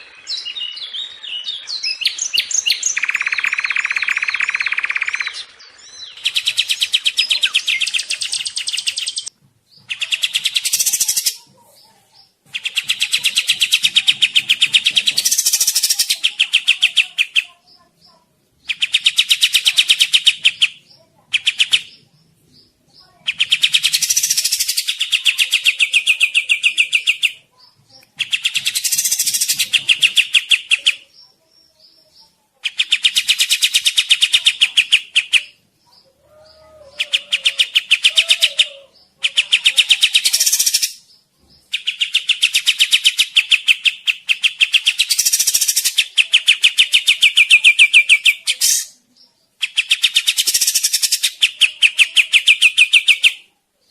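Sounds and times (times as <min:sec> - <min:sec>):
bird singing rapid repeated notes: 0:00.0 - 0:36.2, 0:37.0 - 0:53.9.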